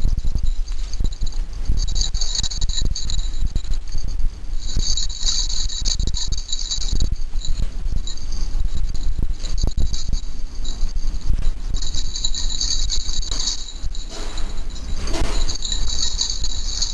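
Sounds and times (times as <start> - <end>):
bumps and scuffs on microphone: 0.0 - 16.9
light jingling: 0.0 - 16.9.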